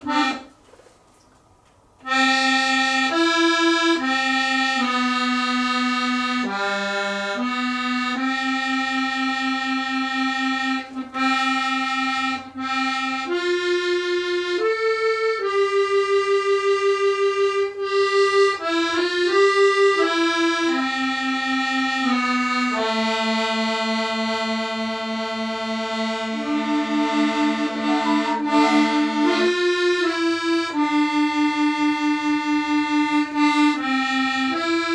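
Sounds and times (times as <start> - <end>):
free-reed instrument melody: 0.0 - 1.4, 2.0 - 34.9.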